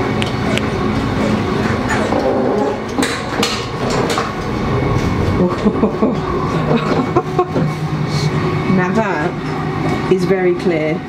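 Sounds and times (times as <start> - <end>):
train hum and rumble: 0.0 - 11.0.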